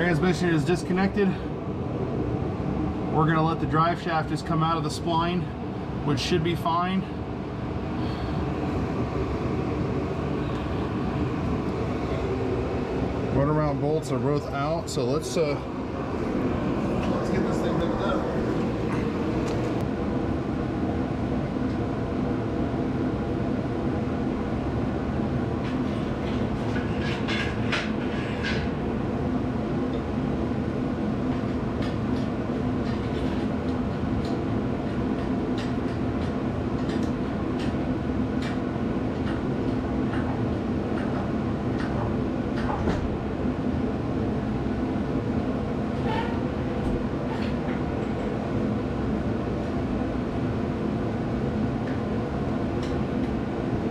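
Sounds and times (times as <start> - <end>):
machine drone: 0.0 - 53.9.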